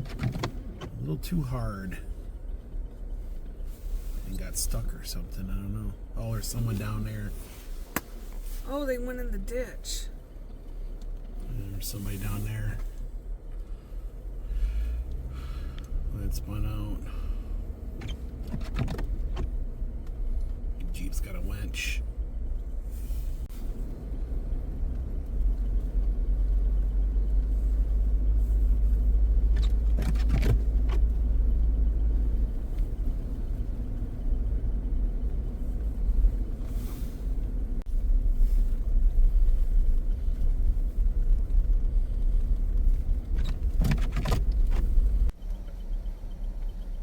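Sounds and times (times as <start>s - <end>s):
car rumble inside cabin: 0.0s - 47.0s.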